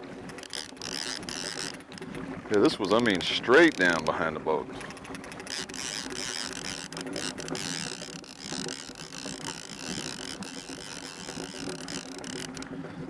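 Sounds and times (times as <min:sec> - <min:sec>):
fishing reel ratcheting: 0:00.2 - 0:02.2, 0:02.9 - 0:04.2, 0:04.8 - 0:12.7.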